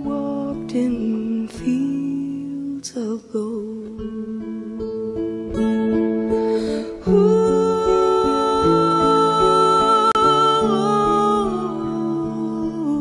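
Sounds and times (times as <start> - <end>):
acoustic guitar picking melody: 0.0 - 13.0.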